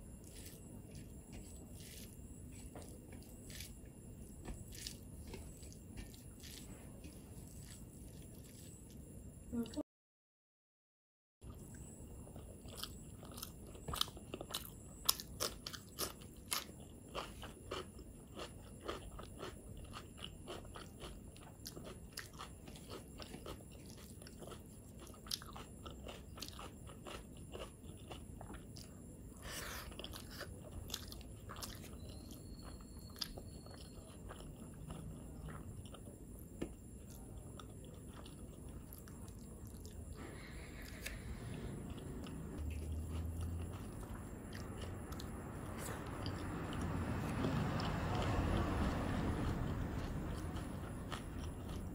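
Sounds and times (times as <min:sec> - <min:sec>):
person chewing food: 0:00.0 - 0:09.1, 0:11.4 - 0:51.9.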